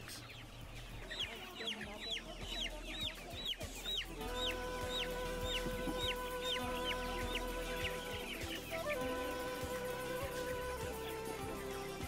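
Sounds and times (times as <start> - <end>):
background music with held notes: 0.0 - 12.0
chicks peeping: 0.0 - 12.0.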